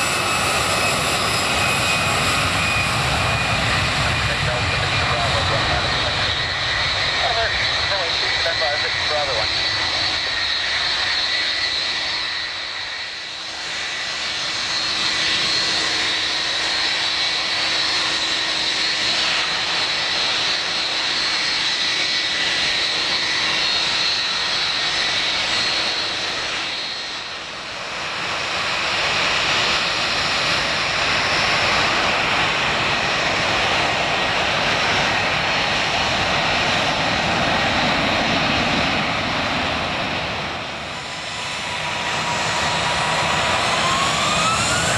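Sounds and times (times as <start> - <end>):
jet engine fan whine: 0.0 - 44.9
jet engine rush: 0.0 - 44.9.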